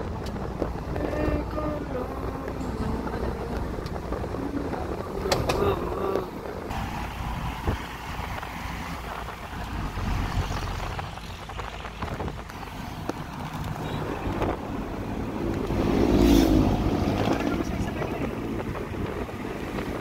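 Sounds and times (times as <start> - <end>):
vehicle road and engine noise: 0.0 - 20.0
wind on microphone: 0.0 - 20.0.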